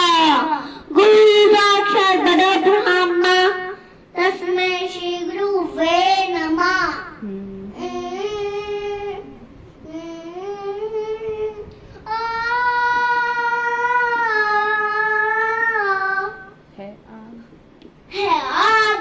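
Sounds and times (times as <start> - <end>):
boy singing: 0.0 - 9.3, 9.9 - 16.6, 18.1 - 19.0.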